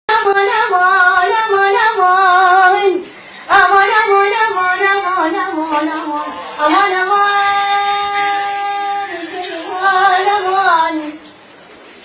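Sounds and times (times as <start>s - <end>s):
child singing in a high voice: 0.1s - 11.2s.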